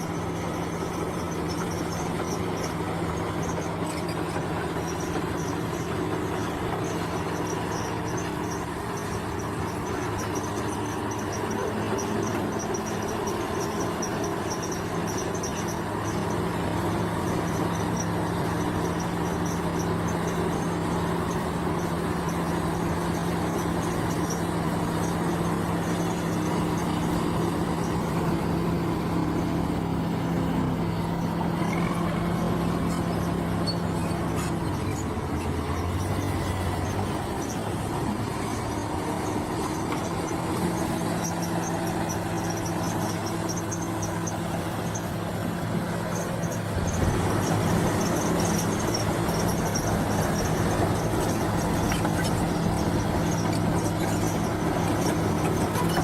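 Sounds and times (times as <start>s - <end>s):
heavy machinery diesel engine: 0.0s - 56.0s
insects trilling: 0.0s - 56.0s.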